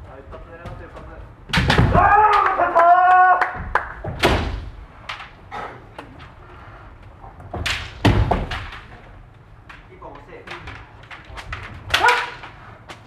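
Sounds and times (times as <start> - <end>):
bamboo swords clacking: 1.5 - 3.2, 4.0 - 13.0.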